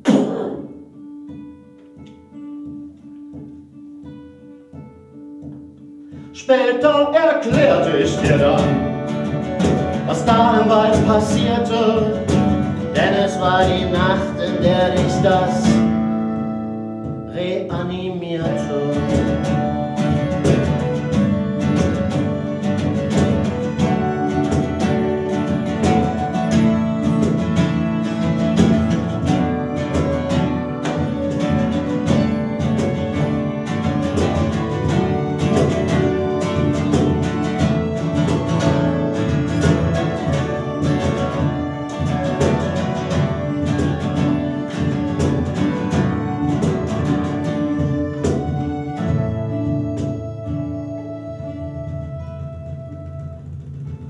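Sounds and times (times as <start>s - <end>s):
accordion chords: 0.0s - 53.0s
strummed acoustic guitar: 0.0s - 54.0s.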